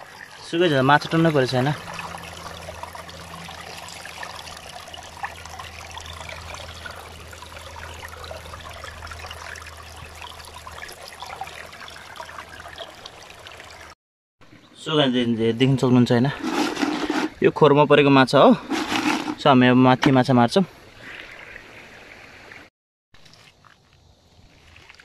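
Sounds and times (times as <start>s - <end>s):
water trickling and splashing: 0.0s - 14.0s, 16.3s - 17.5s, 18.6s - 25.0s.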